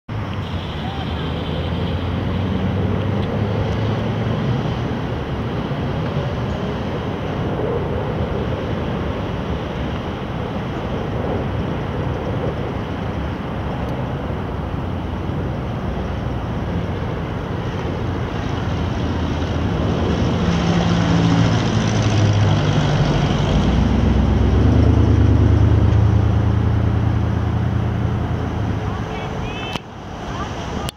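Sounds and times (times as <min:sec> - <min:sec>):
propeller plane engine drone: 0:00.1 - 0:30.9
steady broad rumble: 0:00.1 - 0:30.9.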